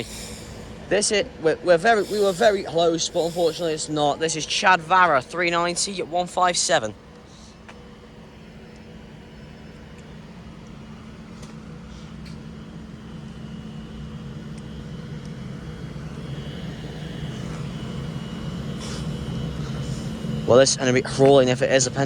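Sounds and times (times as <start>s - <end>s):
electric train hum: 0.0s - 22.0s
high whine: 0.0s - 22.0s.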